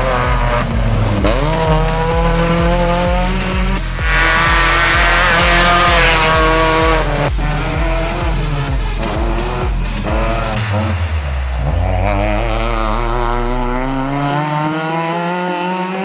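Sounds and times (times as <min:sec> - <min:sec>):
background music with steady beat: 0:00.0 - 0:16.0
car engine revving: 0:00.0 - 0:16.0.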